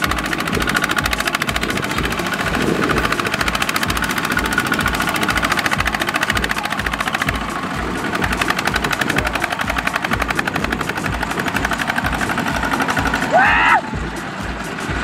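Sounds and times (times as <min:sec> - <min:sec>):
diesel tractor engine chugging: 0:00.0 - 0:15.0.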